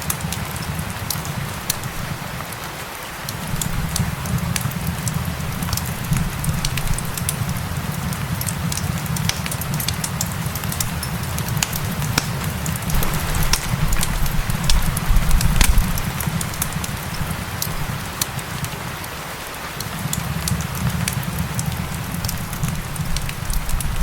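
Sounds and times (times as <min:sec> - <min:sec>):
steady rain: 0:00.0 - 0:24.0
wood fire crackling: 0:00.0 - 0:24.0.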